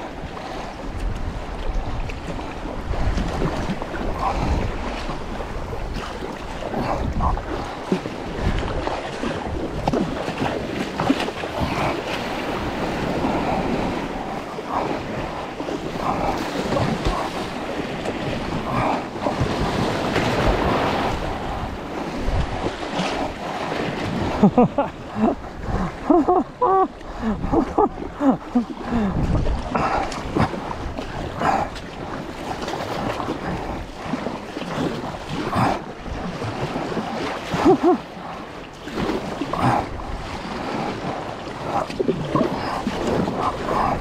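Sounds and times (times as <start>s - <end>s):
waves splashing against kayak: 0.0s - 44.0s
wind buffeting microphone: 0.0s - 44.0s.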